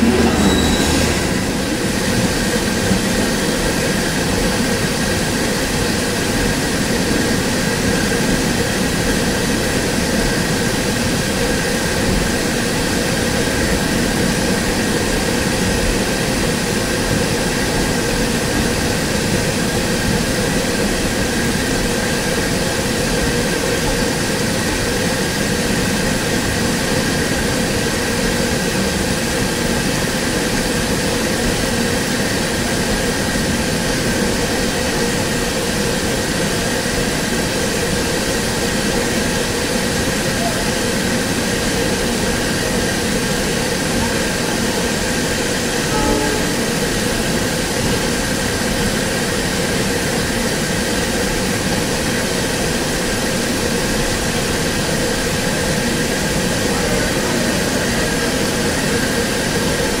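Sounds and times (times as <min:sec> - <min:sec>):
train engine droning: 0:00.0 - 1:00.0.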